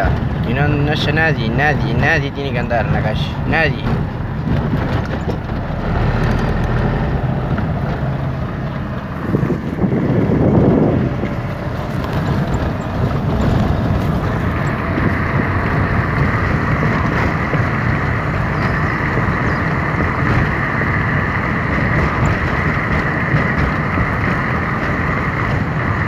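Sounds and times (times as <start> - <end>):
car running noise from inside: 0.0 - 26.0
wind rumbling on microphone: 0.0 - 26.0.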